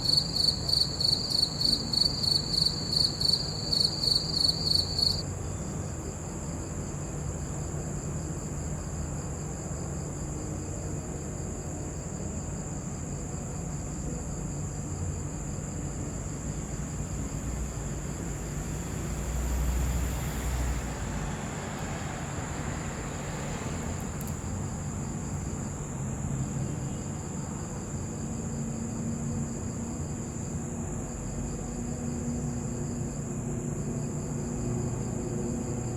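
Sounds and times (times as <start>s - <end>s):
crickets chirping: 0.0s - 35.9s.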